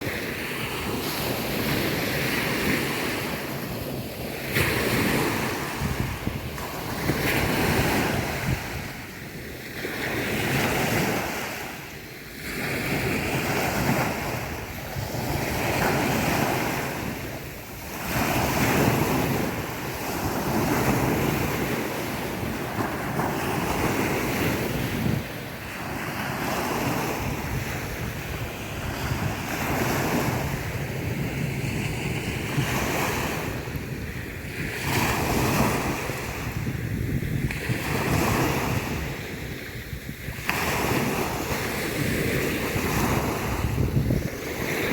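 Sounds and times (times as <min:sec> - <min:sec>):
sea waves washing onto beach: 0:00.0 - 0:44.9.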